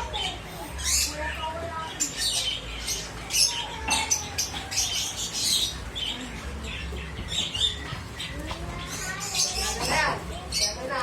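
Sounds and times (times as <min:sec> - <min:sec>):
lovebird chirping and squawking: 0:00.0 - 0:11.0.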